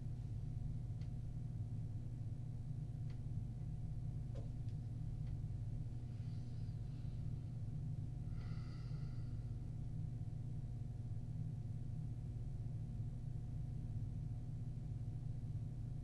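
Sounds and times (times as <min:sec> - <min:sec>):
low hum of room tone: 0:00.0 - 0:16.0.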